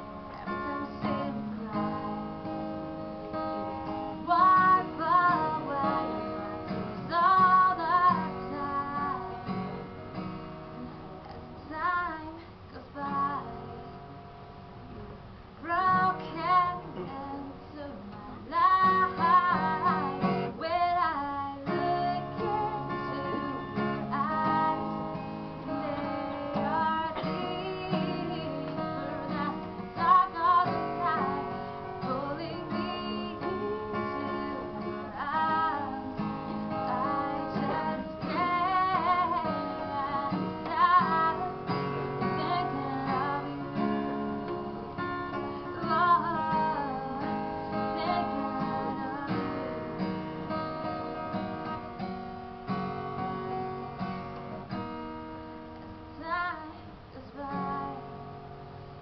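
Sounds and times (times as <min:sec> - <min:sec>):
woman singing: 0:00.0 - 0:10.2, 0:11.4 - 0:13.9, 0:15.6 - 0:54.1, 0:56.1 - 0:58.3
acoustic guitar: 0:00.0 - 0:59.0.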